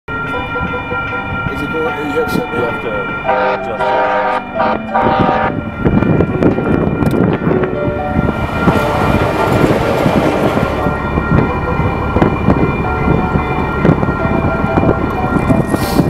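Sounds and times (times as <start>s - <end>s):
steady high tones: 0.1s - 15.5s
train rumbling on rails: 0.1s - 16.0s.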